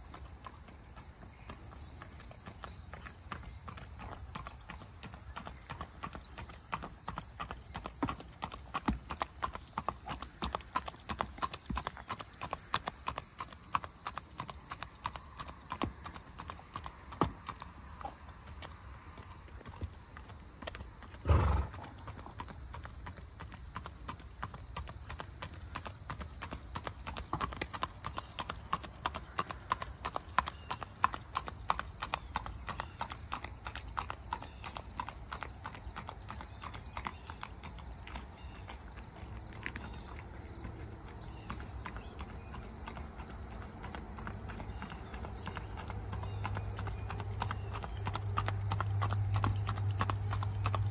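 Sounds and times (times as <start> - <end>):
horse hoofbeats on paved road: 0.0 - 50.9.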